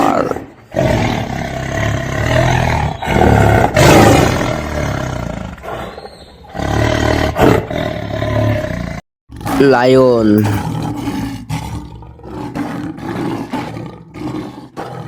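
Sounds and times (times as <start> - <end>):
tiger roaring: 0.0 - 15.0.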